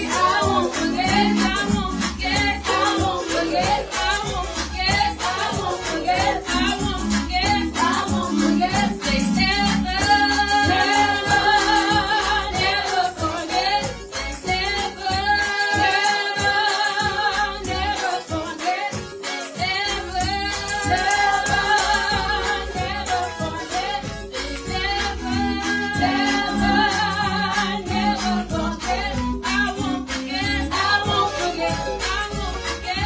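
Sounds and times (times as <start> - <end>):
women singing gospel song: 0.0 - 33.0.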